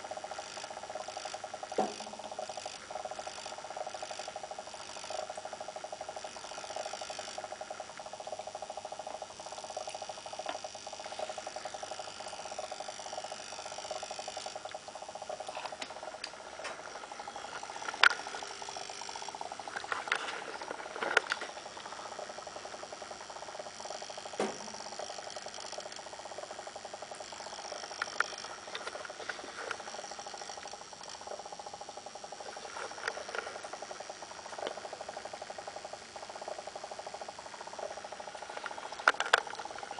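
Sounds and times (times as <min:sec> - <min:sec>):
electrolysis cell buzzing hum: 0:00.0 - 0:39.9
sharp clicks: 0:00.3 - 0:39.9.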